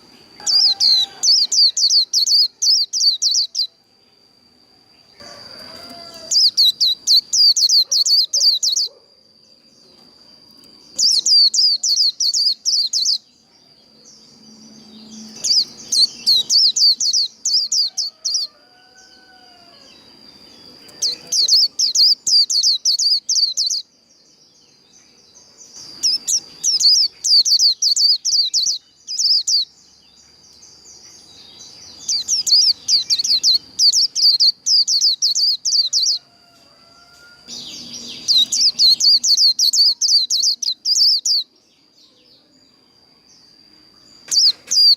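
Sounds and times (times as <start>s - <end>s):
bird twittering chirps: 0.0s - 3.8s, 5.0s - 44.9s
faint high whine: 0.0s - 7.7s, 9.0s - 44.9s.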